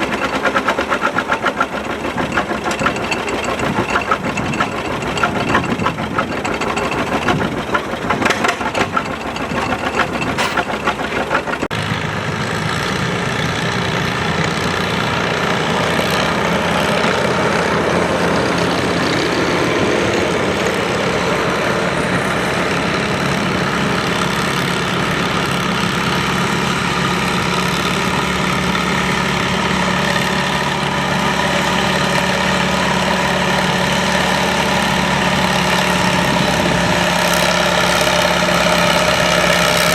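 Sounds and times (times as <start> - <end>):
tractor engine running: 0.0 - 11.8, 13.2 - 39.9.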